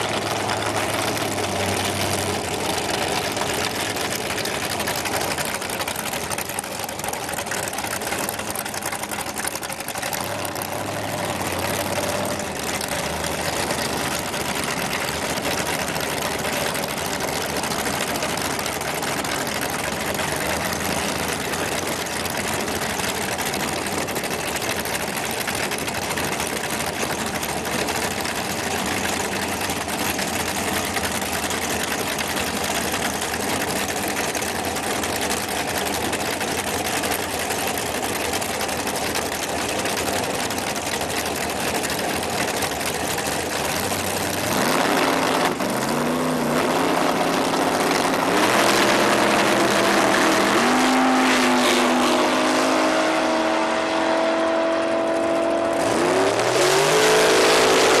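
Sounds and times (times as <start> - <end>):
engine idling loudly: 0.0 - 58.0.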